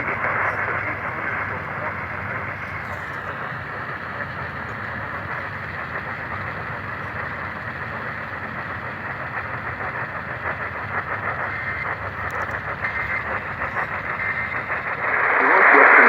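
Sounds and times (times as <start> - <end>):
faint crackle: 0.0 - 16.0
radio static hiss: 0.0 - 16.0.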